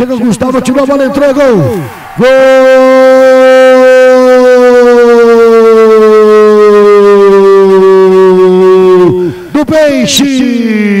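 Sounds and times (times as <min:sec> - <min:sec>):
commentator shouting goal: 0:00.0 - 0:11.0.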